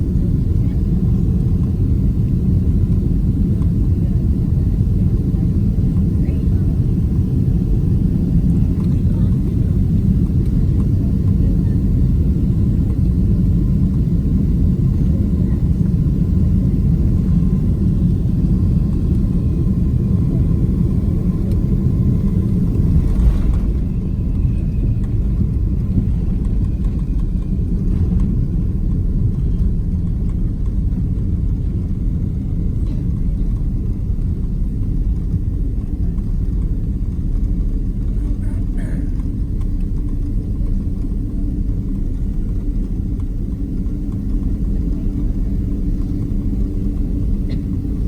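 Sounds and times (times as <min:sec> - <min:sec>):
airplane cabin low rumble: 0:00.0 - 0:48.0.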